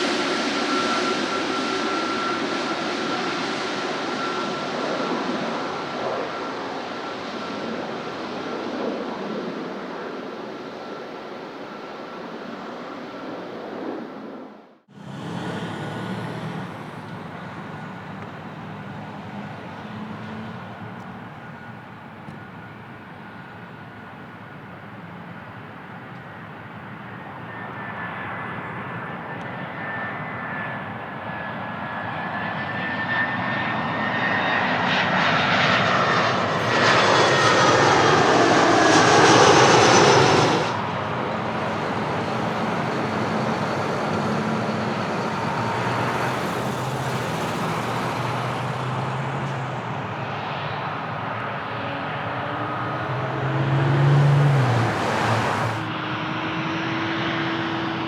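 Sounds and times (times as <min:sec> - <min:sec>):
jet engines with falling whine: 0:00.0 - 0:58.0.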